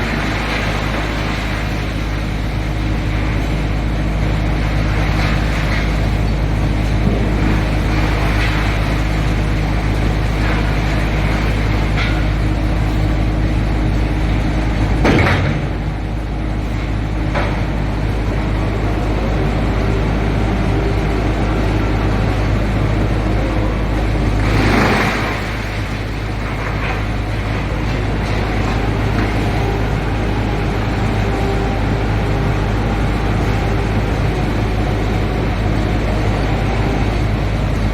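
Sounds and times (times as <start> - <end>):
wood chipper droning: 0.0 - 37.9.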